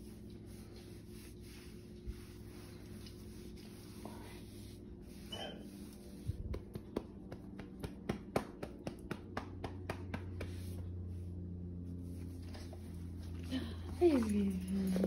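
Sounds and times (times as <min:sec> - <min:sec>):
hand rubbing fabric: 0:00.0 - 0:13.3.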